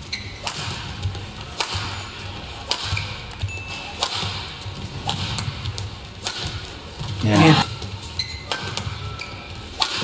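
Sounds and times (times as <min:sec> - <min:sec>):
rackets hitting shuttlecock: 0:00.2 - 0:10.0.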